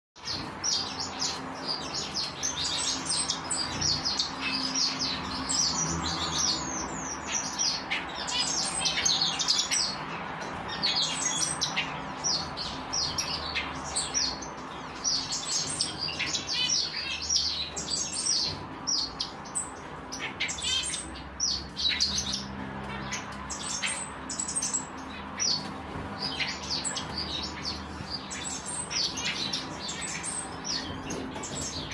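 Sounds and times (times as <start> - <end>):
birds chirping and twittering: 0.2 - 31.9.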